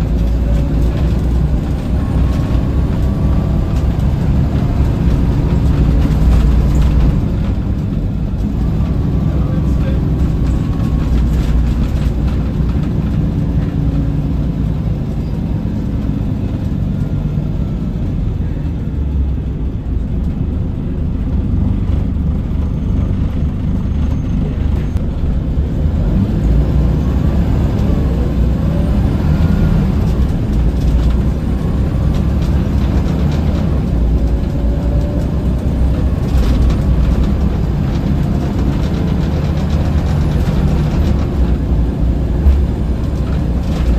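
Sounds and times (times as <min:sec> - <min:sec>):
bus diesel engine rumble: 0:00.0 - 0:43.9
road noise: 0:00.0 - 0:43.9.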